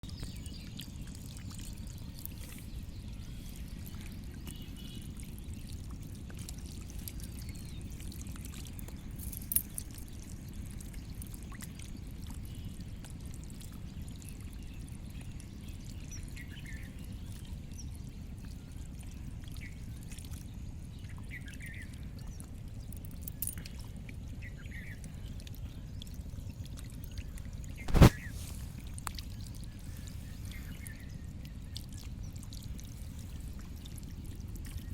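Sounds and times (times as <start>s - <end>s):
flowing water: 0.0s - 34.9s.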